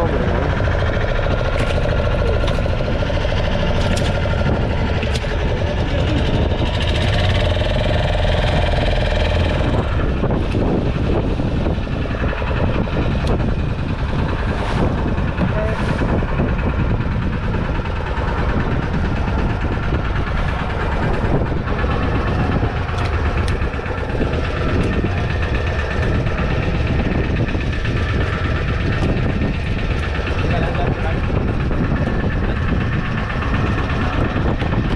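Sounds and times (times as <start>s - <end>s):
boat engine droning: 0.0s - 34.9s.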